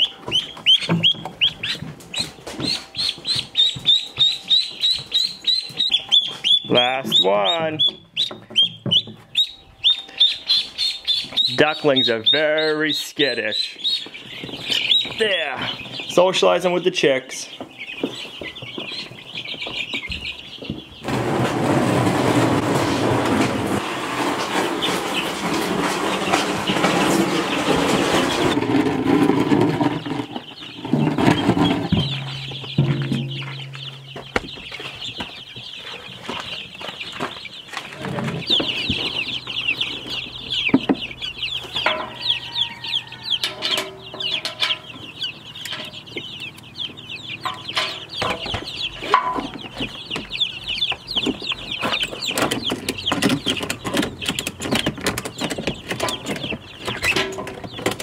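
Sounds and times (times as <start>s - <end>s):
chicks and ducklings peeping: 0.0s - 58.0s
tub rustling and clattering: 0.0s - 58.0s.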